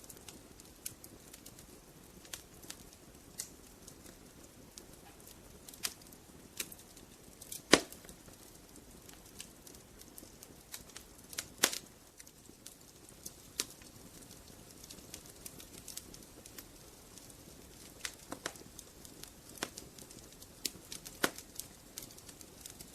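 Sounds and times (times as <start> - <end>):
faint fire hiss: 0.0 - 22.9
logs crackling in a fireplace: 0.0 - 22.9
loud fire pops: 0.0 - 22.9.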